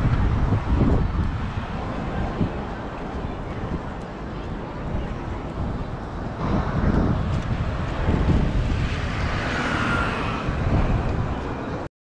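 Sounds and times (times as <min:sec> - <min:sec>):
road traffic rumble: 0:00.0 - 0:11.9.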